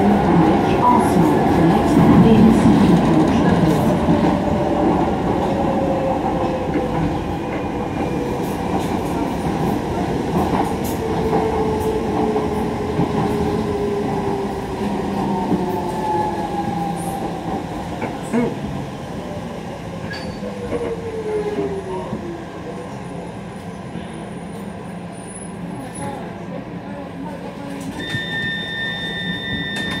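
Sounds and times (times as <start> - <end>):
train rumbling on track: 0.0 - 30.0.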